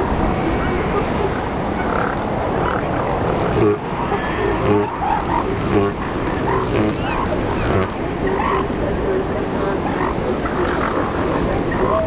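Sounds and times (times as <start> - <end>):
surf rumbling: 0.0 - 12.0
elephant seals calling: 0.4 - 8.9, 9.6 - 12.0.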